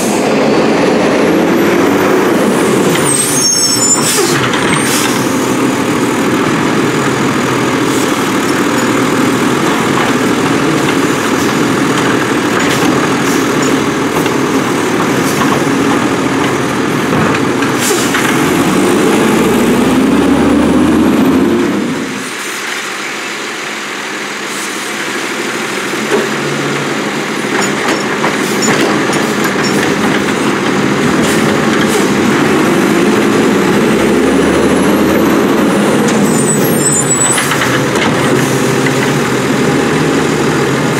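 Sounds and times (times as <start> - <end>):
garbage truck diesel engine running: 0.0 - 40.9.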